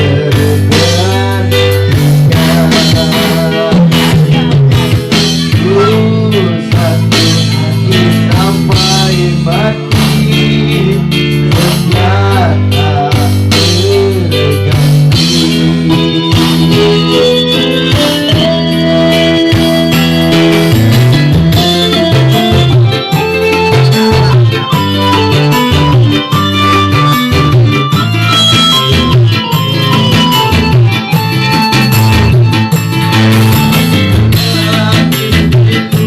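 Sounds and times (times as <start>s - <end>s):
instrumental band music: 0.0s - 36.0s.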